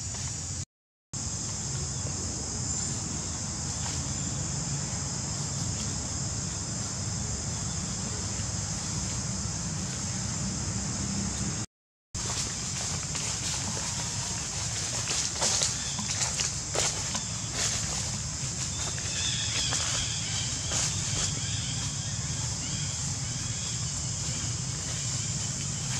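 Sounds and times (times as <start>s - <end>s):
high-pitched insect chorus: 1.2s - 25.9s.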